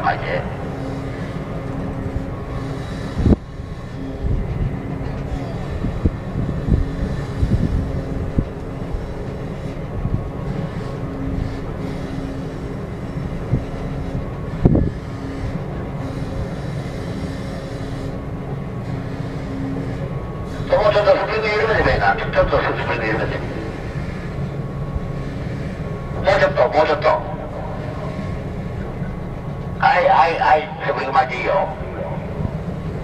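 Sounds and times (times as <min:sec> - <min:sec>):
ship machinery rumble: 0:00.0 - 0:33.0.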